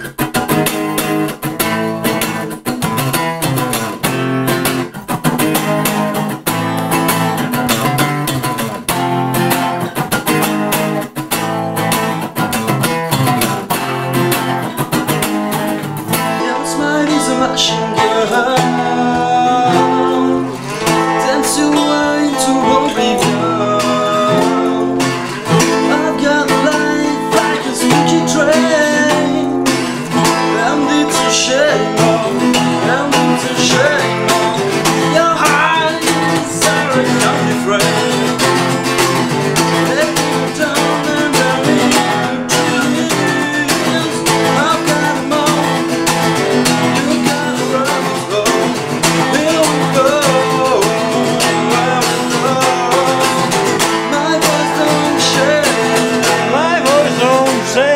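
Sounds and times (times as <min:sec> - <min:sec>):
acoustic and resonator guitars playing: 0:00.0 - 0:57.9.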